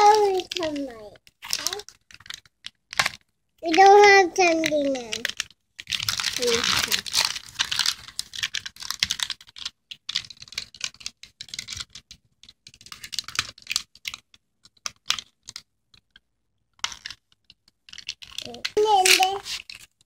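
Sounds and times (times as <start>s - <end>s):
plastic candy wrapper crinkling: 0.0s - 20.0s.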